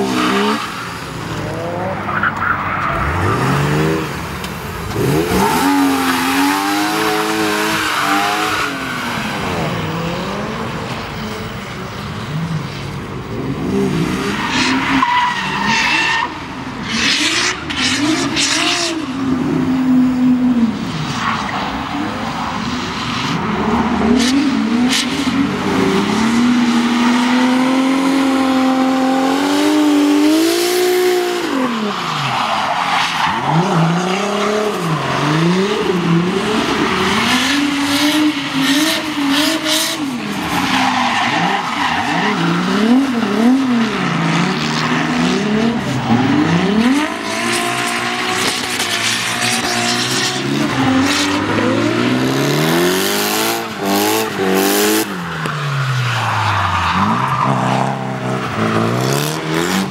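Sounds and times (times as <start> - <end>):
tyres screeching on tarmac: 0.0 - 12.9, 13.6 - 19.1, 24.5 - 59.9
car engine revving: 0.0 - 59.9.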